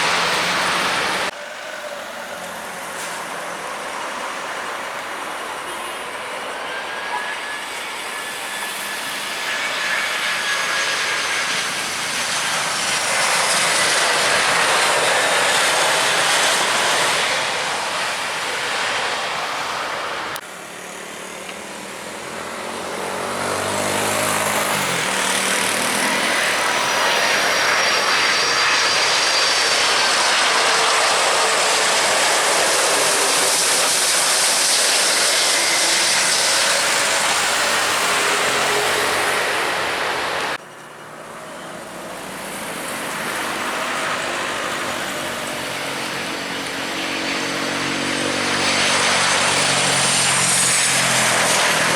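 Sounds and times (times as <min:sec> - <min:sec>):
airliner engines passing: 0:00.0 - 0:51.9.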